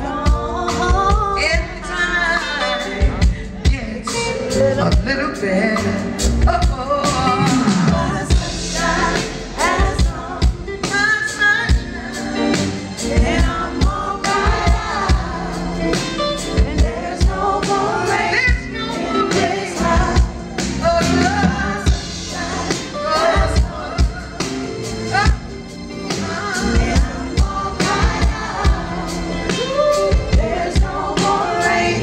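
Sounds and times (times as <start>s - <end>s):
steady drum beat: 0.0s - 2.0s, 2.9s - 32.0s
woman singing: 0.0s - 5.0s, 5.6s - 25.5s, 26.1s - 32.0s
live band playing: 0.0s - 32.0s.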